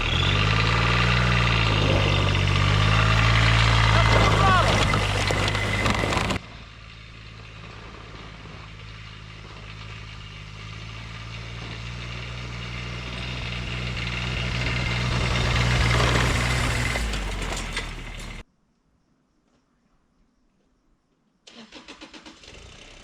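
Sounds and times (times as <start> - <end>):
small diesel engine labouring: 0.0 - 18.4, 21.5 - 23.0.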